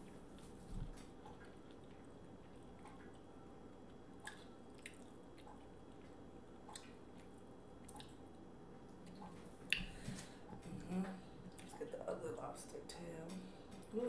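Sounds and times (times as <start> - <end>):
chewing and wet mouth sounds: 0.1 - 11.9.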